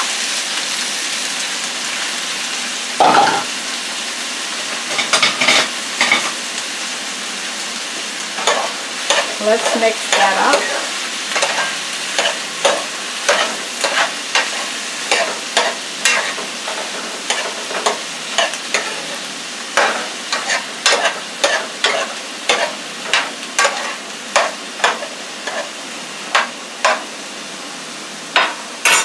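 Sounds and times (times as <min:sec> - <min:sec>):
vegetables sizzling in a frying pan: 0:00.0 - 0:29.0.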